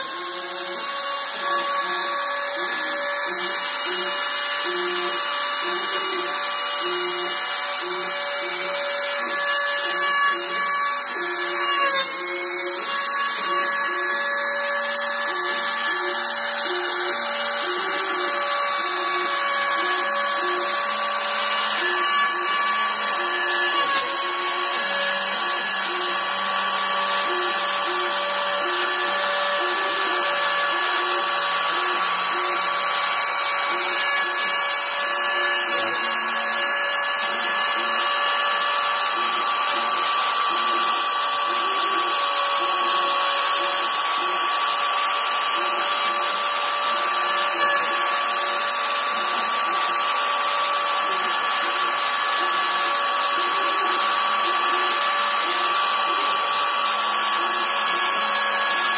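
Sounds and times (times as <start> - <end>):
router spindle whining: 0.0 - 58.9
stepper motors humming: 0.0 - 58.9.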